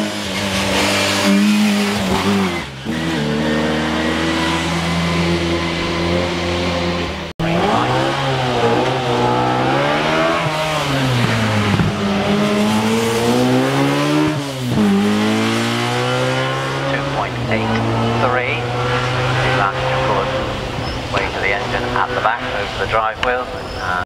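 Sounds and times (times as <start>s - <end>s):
racing car engine at full throttle: 0.0s - 24.0s.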